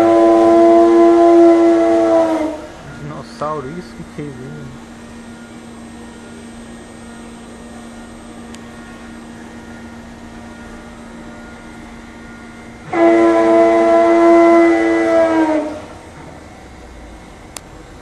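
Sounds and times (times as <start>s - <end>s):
router humming: 0.0s - 17.8s
loud droning tone: 0.0s - 18.0s.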